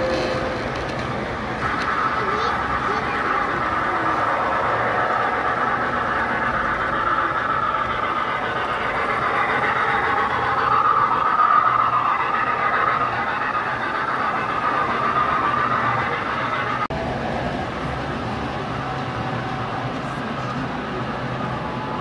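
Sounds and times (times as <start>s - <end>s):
model train rolling whir: 0.0s - 22.0s.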